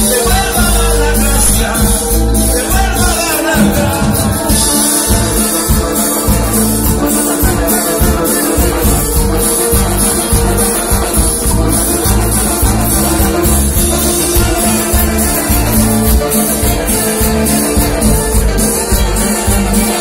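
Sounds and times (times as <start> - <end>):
live band playing dance music: 0.0 - 20.0
shaker percussion: 0.0 - 20.0.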